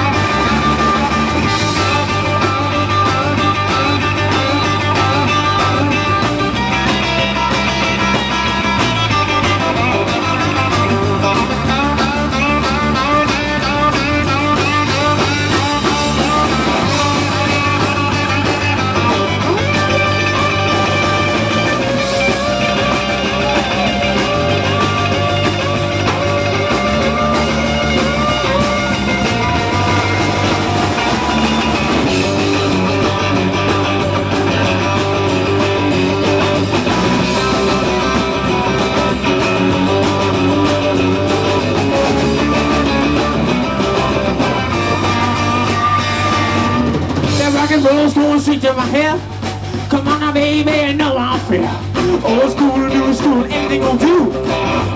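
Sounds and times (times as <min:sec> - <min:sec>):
bass line: 0:00.0 - 0:54.9
drum kit: 0:00.0 - 0:54.9
electric guitar: 0:00.0 - 0:54.9.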